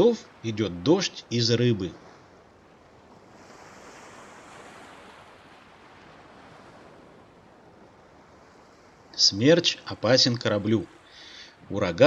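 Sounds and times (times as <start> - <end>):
sea surf rushing: 0.0 - 2.3, 3.1 - 12.0
wind: 0.0 - 12.0.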